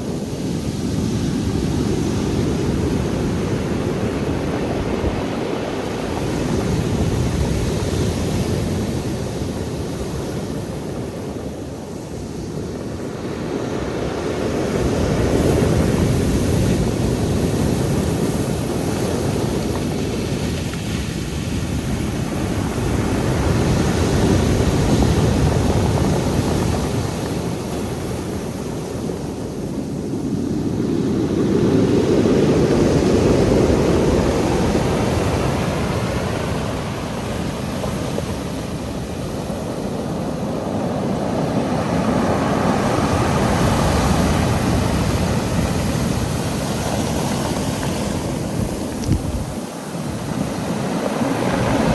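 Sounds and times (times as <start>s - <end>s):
sea waves breaking on shore: 0.0s - 51.9s.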